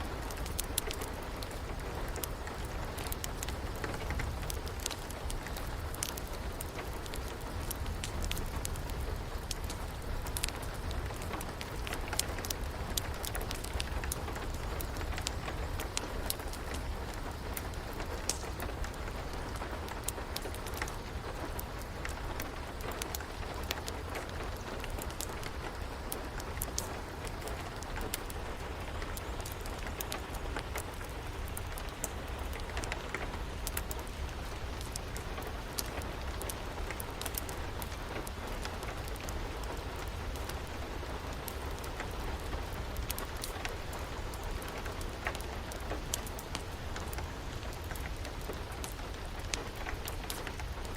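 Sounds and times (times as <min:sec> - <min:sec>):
steady rain: 0:00.0 - 0:50.9
wood fire crackling: 0:00.0 - 0:50.9.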